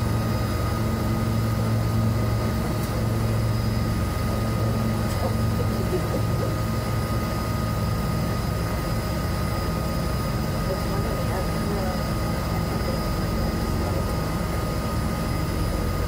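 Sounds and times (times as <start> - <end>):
plane engine running at low power: 0.0 - 16.0.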